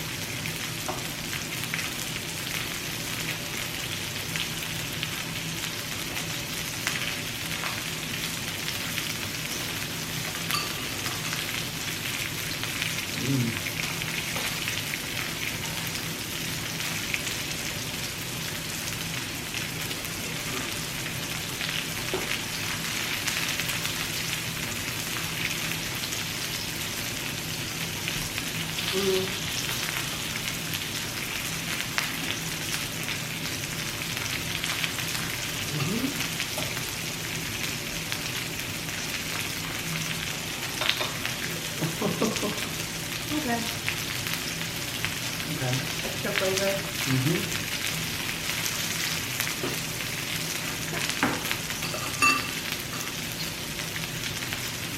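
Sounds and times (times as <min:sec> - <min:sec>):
meat sizzling on a grill: 0:00.0 - 0:54.9.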